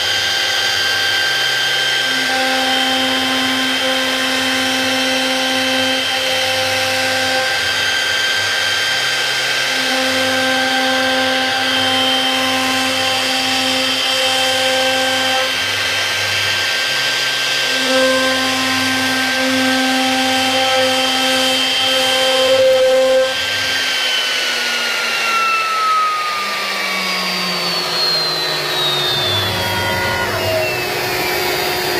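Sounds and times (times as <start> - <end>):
cnc router spindle whine: 0.0 - 31.9
motor hums: 0.0 - 31.9.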